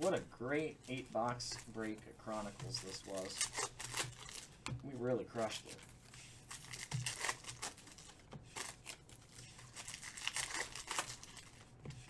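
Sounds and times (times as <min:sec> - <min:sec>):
foil wrapper crinkling and tearing: 0:00.0 - 0:04.6, 0:06.4 - 0:11.7.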